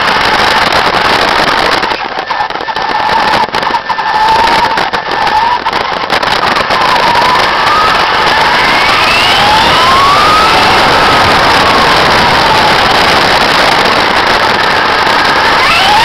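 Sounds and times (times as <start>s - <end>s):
jet engine roaring and whining: 0.0s - 16.0s.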